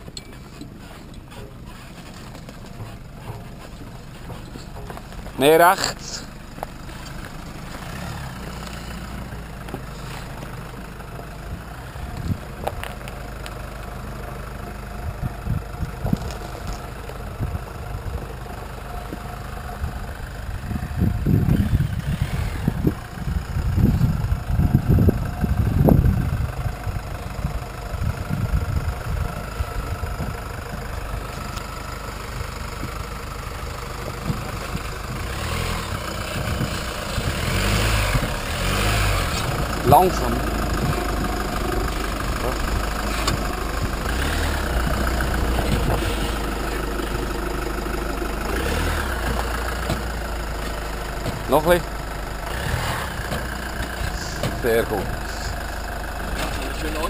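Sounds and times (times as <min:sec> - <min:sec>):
diesel engine at low revs: 0:00.0 - 0:57.0.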